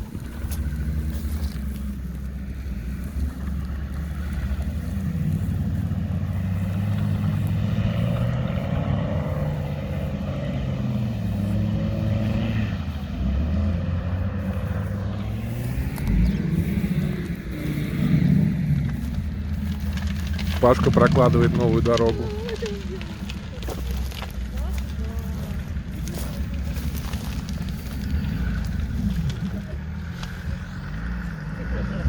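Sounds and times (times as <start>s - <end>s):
suv engine at low revs: 0.0s - 32.0s.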